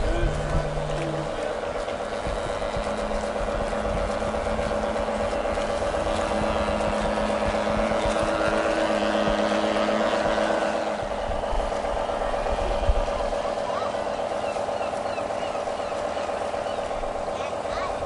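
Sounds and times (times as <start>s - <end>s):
model boat motor humming: 0.0s - 18.0s.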